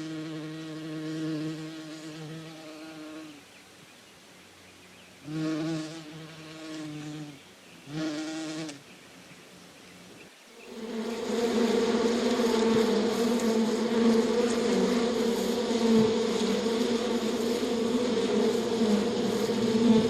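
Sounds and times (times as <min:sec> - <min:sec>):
bee buzzing in flight: 0:00.0 - 0:03.4, 0:05.3 - 0:08.8, 0:10.6 - 0:20.0.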